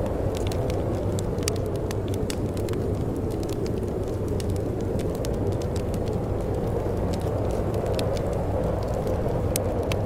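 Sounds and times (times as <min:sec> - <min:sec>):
wood fire crackling and popping: 0:00.0 - 0:10.0.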